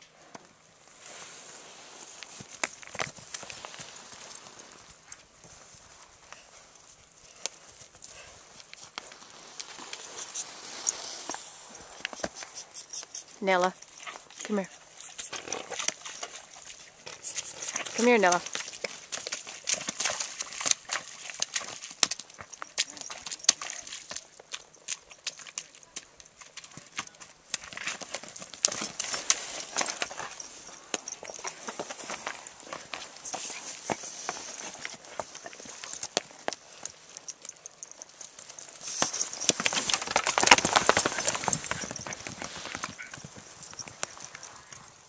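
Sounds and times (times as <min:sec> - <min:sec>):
horse hooves on stony ground: 0:00.0 - 0:45.0.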